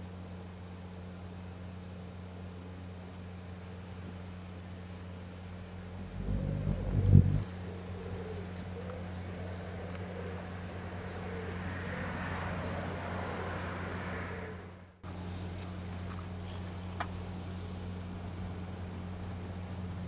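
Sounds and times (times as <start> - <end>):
distant road traffic hum: 0.0 - 20.0.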